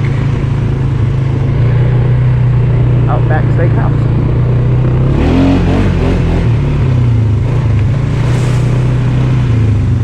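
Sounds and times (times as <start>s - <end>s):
atv engine running and revving: 0.0s - 10.0s.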